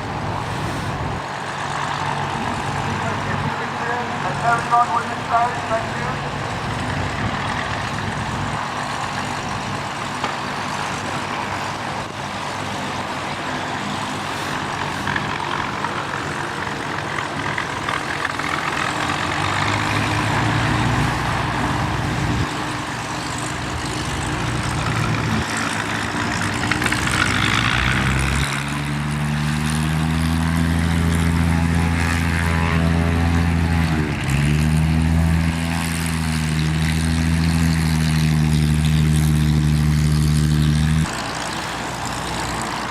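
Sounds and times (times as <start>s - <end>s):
propeller aircraft engine drone: 0.0s - 42.9s.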